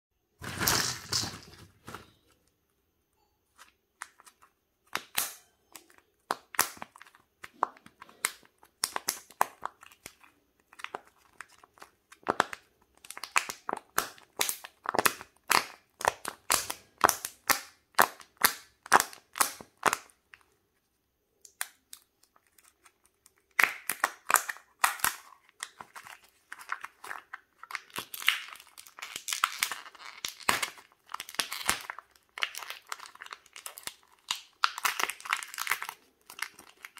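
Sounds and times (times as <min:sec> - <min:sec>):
crinkling: 0:00.4 - 0:02.7, 0:03.5 - 0:17.2, 0:18.2 - 0:36.9.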